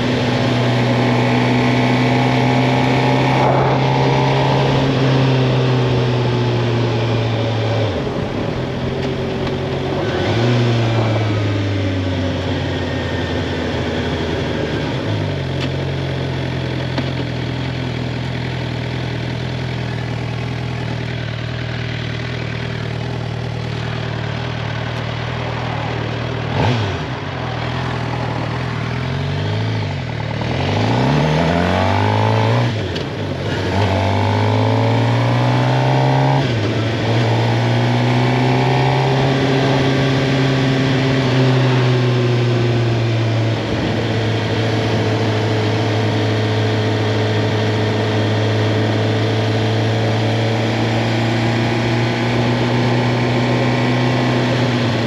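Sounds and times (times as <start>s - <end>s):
motorcycle engine revving and shifting: 0.0s - 55.0s.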